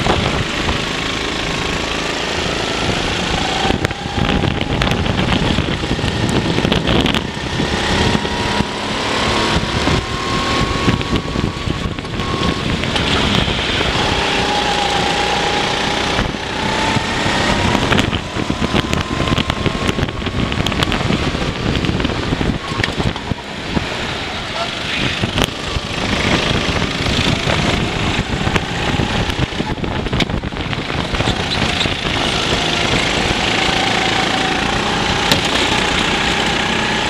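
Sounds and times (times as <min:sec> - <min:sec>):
go-kart engine revving: 0:00.0 - 0:37.0
wind buffeting microphone: 0:00.0 - 0:37.0.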